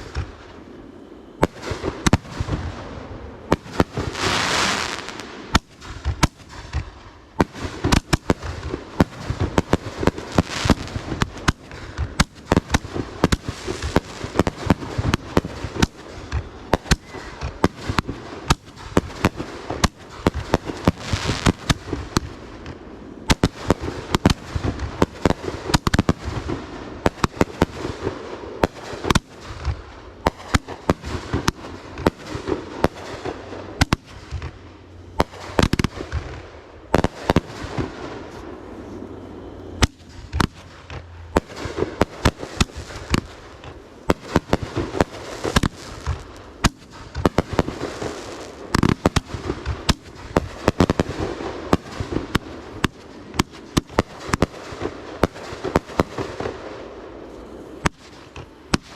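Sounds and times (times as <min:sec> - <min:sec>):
fireworks banging: 0:00.0 - 0:58.9
fireworks crackling: 0:00.0 - 0:58.9.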